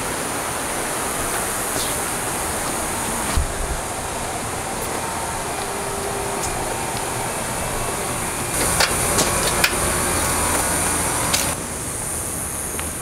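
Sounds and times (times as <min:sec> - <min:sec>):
higher hiss: 0:00.0 - 0:13.0
steady outdoor hum and hiss: 0:00.0 - 0:13.0.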